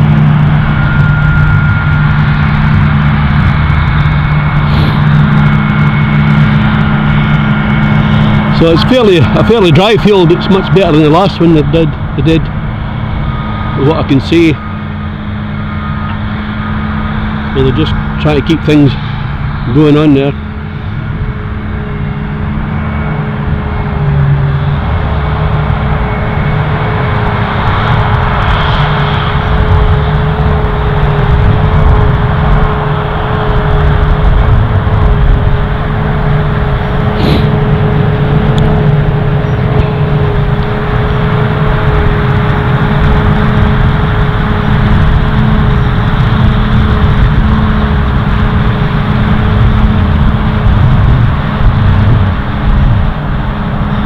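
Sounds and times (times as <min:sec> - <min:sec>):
forage harvester engine whine: 0:00.0 - 0:54.0
tractors running: 0:00.0 - 0:54.0.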